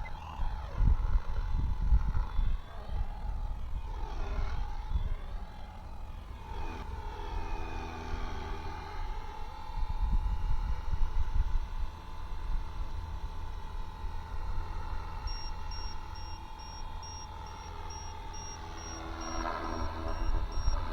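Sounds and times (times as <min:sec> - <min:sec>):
rc helicopter rotor whine: 0:00.0 - 0:20.9.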